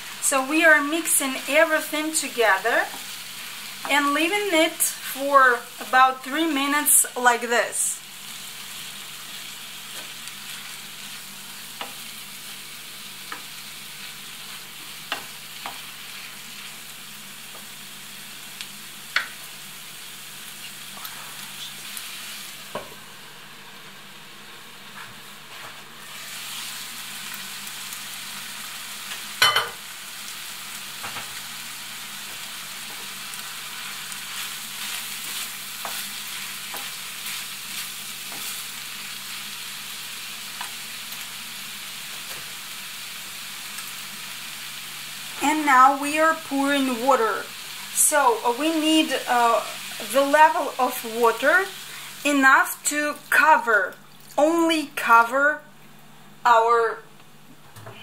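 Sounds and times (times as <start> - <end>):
food sizzling in a frying pan: 0.0 - 57.5.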